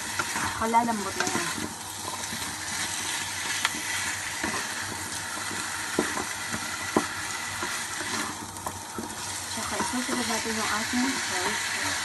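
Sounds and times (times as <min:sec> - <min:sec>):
food sizzling in a wok: 0:00.0 - 0:12.0
wooden spatula stirring: 0:00.0 - 0:12.0.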